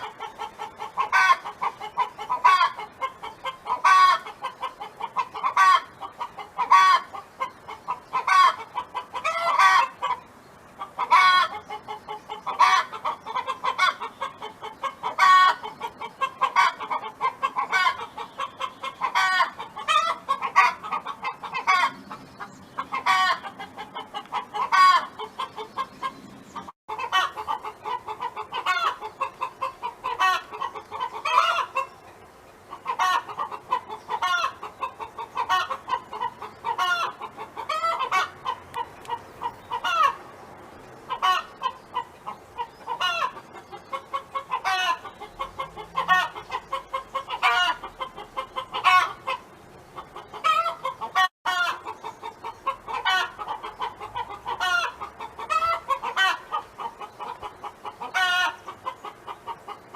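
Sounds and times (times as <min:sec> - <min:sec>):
hen clucking: 0:00.0 - 0:59.9.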